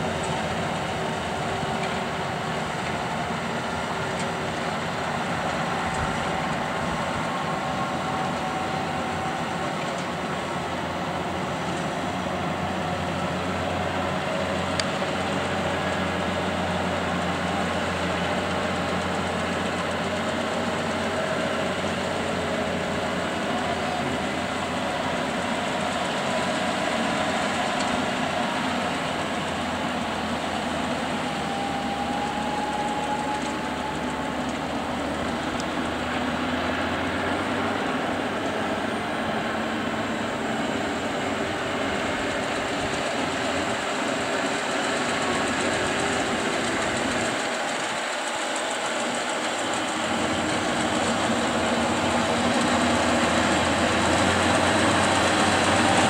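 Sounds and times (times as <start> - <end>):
baler machinery running: 0.0 - 56.0
tractor engine running under load: 0.0 - 56.0.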